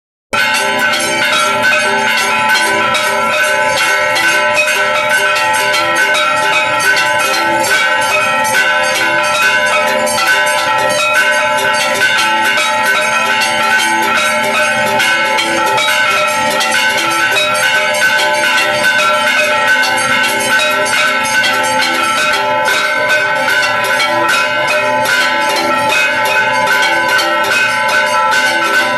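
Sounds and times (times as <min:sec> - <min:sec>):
bells ringing: 0:00.3 - 0:28.9.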